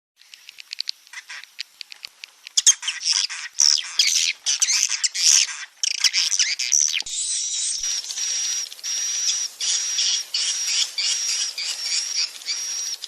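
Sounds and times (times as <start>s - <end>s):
swiftlets chirping and twittering: 2.5s - 13.0s.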